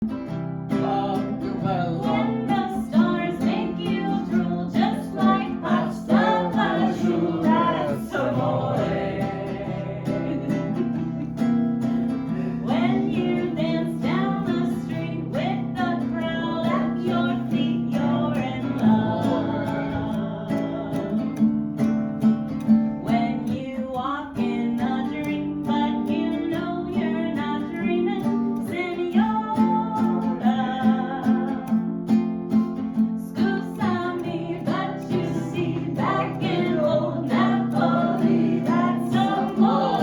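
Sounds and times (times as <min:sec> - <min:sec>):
strummed guitar: 0:00.0 - 0:40.0
person singing: 0:00.7 - 0:21.4, 0:23.0 - 0:31.9, 0:33.2 - 0:40.0.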